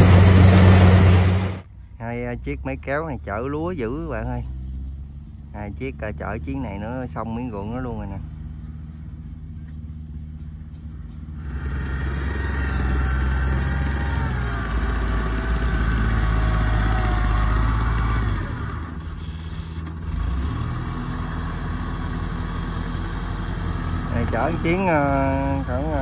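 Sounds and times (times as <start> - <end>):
tracked vehicle engine running: 0.0 - 1.9, 3.1 - 26.0.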